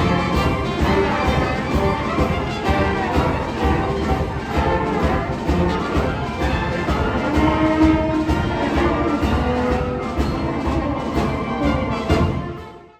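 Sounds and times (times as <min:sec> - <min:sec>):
wind ensemble playing: 0:00.0 - 0:12.9.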